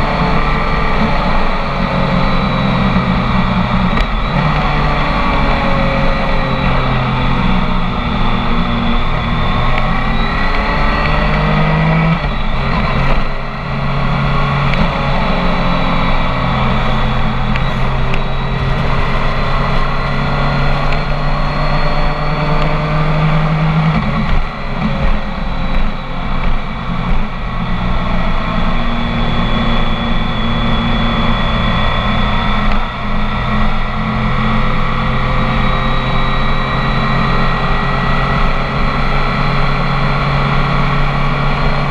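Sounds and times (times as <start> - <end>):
motorcycle engine while riding: 0.0 - 41.9.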